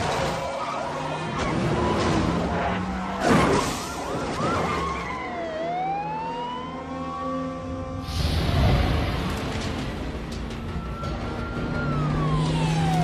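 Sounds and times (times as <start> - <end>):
police siren wailing: 0.0 - 8.0, 10.2 - 13.0.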